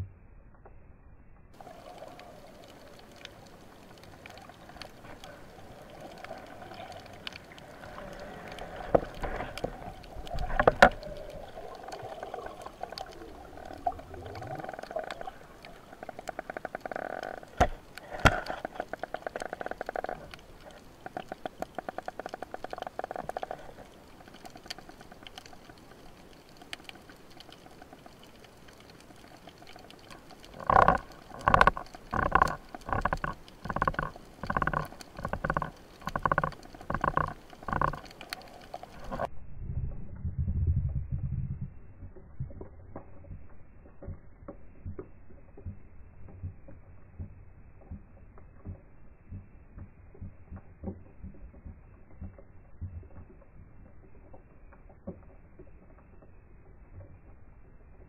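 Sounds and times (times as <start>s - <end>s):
dull underwater hum: 0.0s - 58.0s
underwater clicks and knocks: 1.6s - 39.3s, 39.9s - 58.0s.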